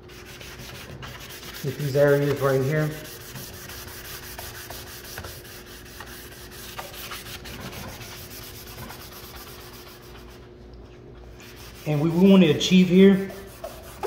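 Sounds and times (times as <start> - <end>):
sanding sponge rasping on wood: 0.1 - 10.3, 11.4 - 14.0.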